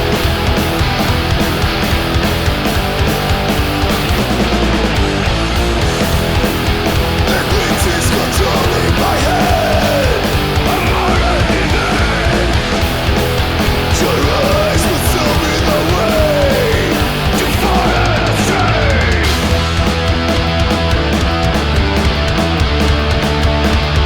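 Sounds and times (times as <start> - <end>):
bass guitar: 0.0 - 24.0
distorted electric guitars: 0.0 - 24.0
drums with crashing cymbals: 0.0 - 24.0.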